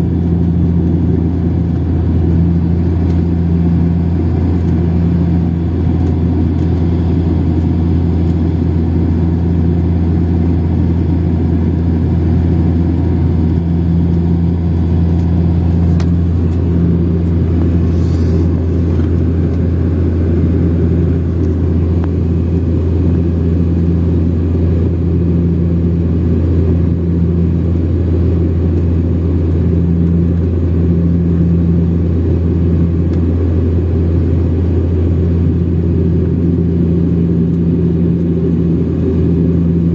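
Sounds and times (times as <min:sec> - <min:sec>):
airliner engines droning: 0:00.0 - 0:39.9.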